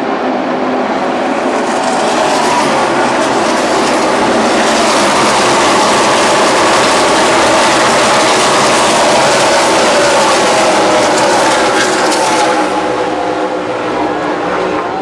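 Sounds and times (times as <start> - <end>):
racing car engines roaring: 0.0 - 15.0.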